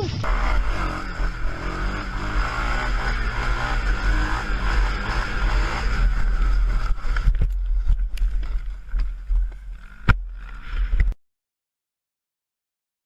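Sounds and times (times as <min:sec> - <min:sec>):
off-road vehicle engine running: 0:00.0 - 0:11.2.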